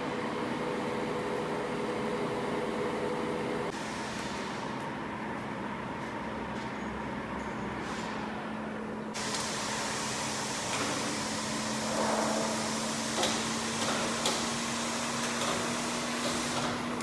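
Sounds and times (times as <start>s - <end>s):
steady workshop hum: 0.0s - 17.0s.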